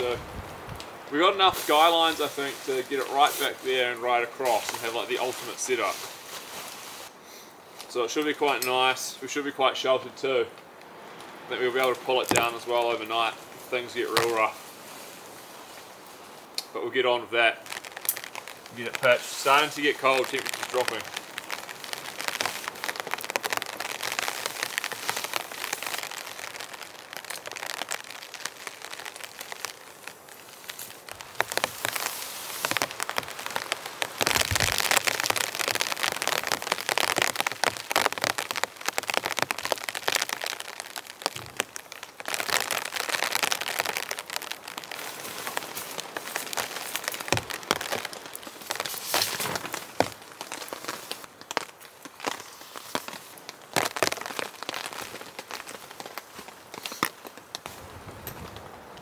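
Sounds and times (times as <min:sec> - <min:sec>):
rain pattering on tent fabric: 0:00.0 - 0:59.0
tarp rustling and crinkling: 0:00.0 - 0:59.0.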